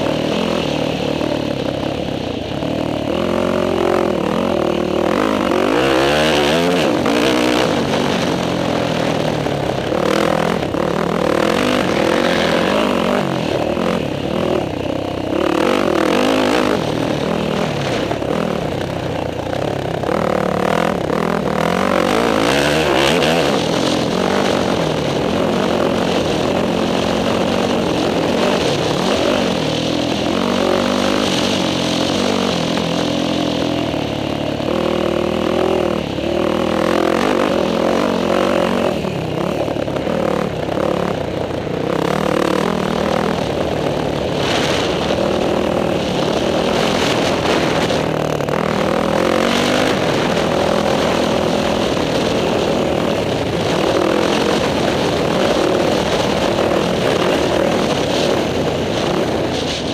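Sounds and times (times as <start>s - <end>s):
dirt bike engine revving: 0.0s - 59.9s
wind rush: 0.0s - 59.9s.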